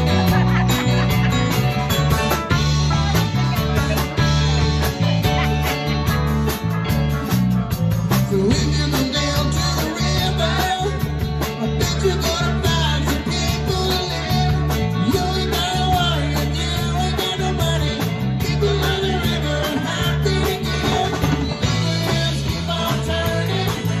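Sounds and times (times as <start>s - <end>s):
drum kit beat: 0.0s - 24.0s
electric bass: 0.0s - 24.0s
electric guitars: 0.0s - 24.0s.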